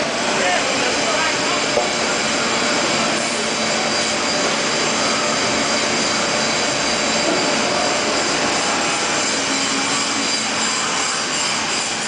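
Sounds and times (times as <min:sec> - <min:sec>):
end grinder running: 0:00.0 - 0:12.0.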